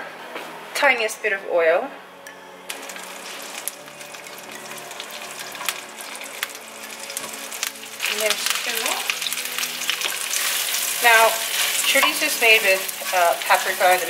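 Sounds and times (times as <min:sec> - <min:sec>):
sausage sizzling in a pan: 0:02.7 - 0:14.0.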